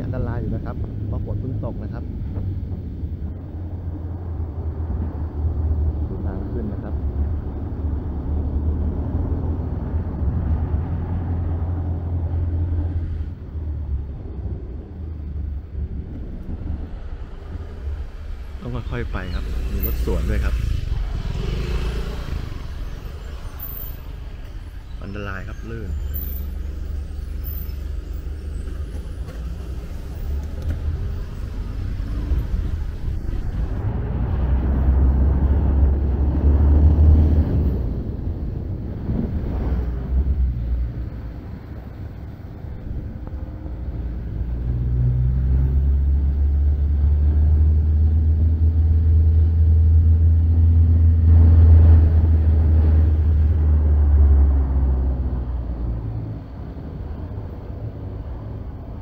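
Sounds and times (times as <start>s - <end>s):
car engine droning under load: 0.0s - 59.0s.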